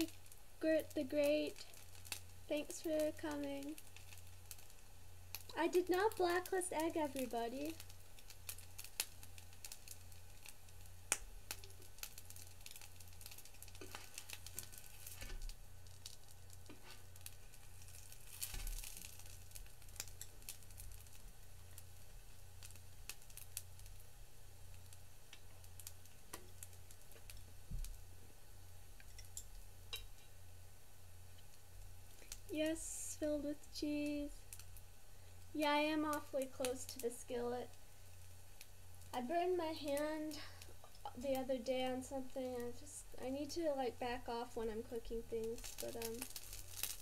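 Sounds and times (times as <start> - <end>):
food sizzling in skillet: 0.0 - 47.0
small crackles: 0.0 - 47.0.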